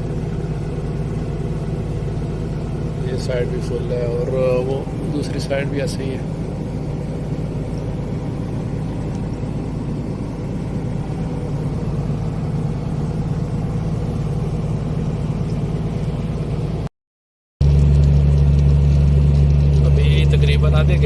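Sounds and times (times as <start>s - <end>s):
truck diesel engine running: 0.0s - 16.9s, 17.6s - 21.0s.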